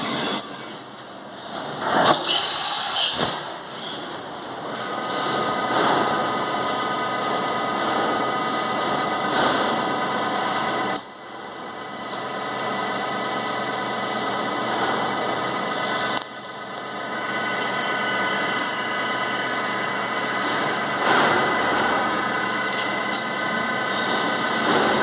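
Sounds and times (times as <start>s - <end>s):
machining centre whirring: 0.0s - 25.0s.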